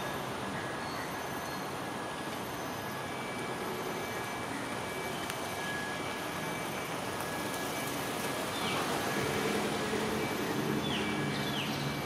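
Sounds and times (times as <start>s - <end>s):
traffic rumble: 0.0s - 12.0s
low engine hum: 1.1s - 12.0s.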